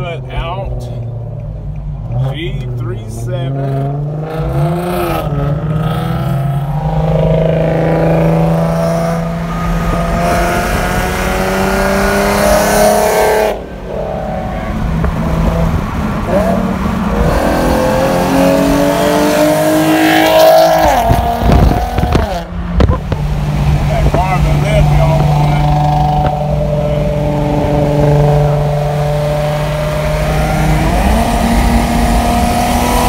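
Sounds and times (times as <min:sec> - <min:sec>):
car exhaust revving: 0:00.0 - 0:33.0.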